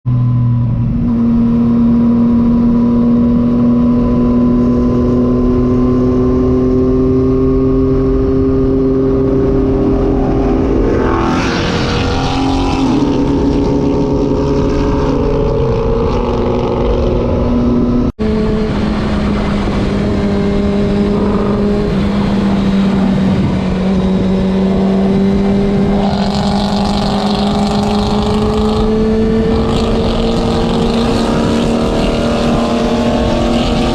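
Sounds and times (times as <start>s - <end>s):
car exhaust engine note: 0.0s - 33.9s
wind rushing over microphone: 0.2s - 33.9s.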